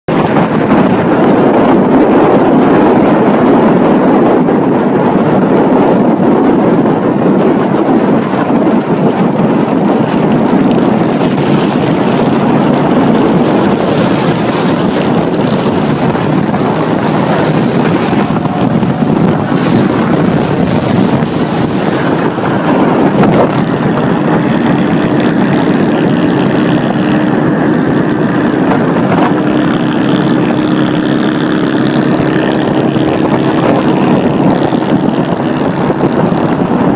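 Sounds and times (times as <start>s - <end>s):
wind noise on microphone: 0.0s - 36.9s
motorcycle engine running: 0.1s - 36.9s.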